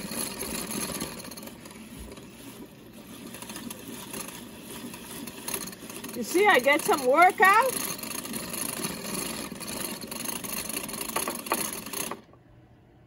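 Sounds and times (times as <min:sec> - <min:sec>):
whisking cream in a bowl: 0:00.0 - 0:12.2.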